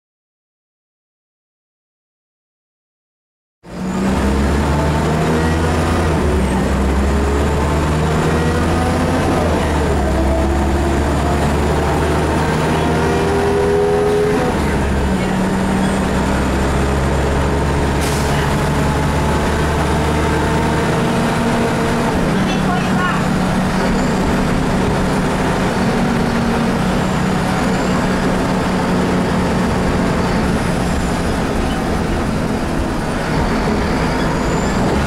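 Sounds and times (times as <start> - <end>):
bus engine drone: 3.6 - 35.0.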